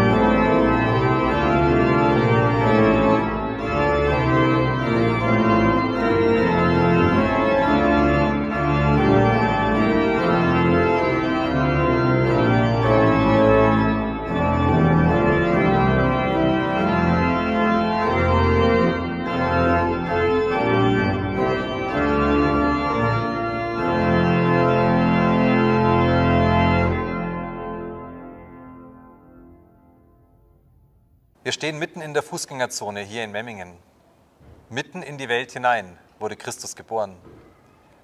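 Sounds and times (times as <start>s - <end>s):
pipe organ playing chords: 0.0s - 30.8s.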